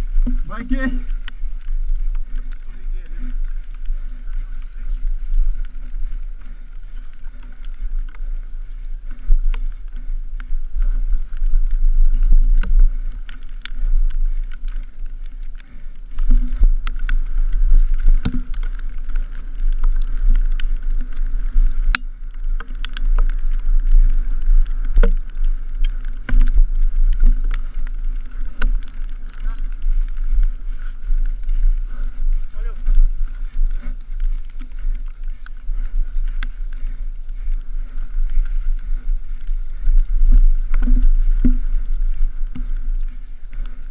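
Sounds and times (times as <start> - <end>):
bike rattling over ground: 0.0 - 43.9
wind buffeting microphone: 0.0 - 43.9.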